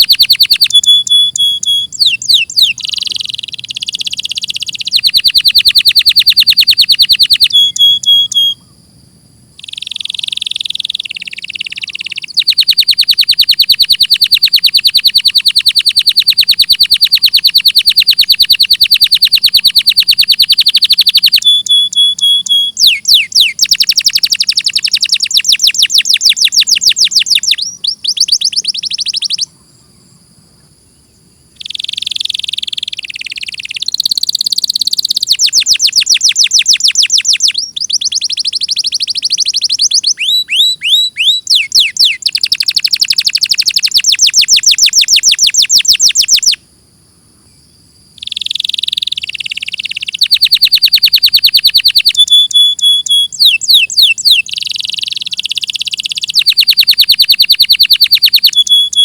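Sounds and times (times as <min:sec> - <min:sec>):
canary singing trills: 0:00.0 - 0:30.1, 0:30.9 - 0:46.6, 0:48.2 - 0:59.0.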